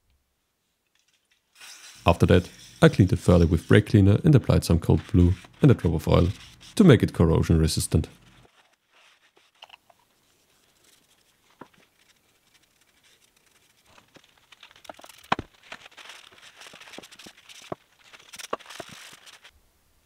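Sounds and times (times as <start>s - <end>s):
paper towel rustling on steel: 1.5s - 19.5s.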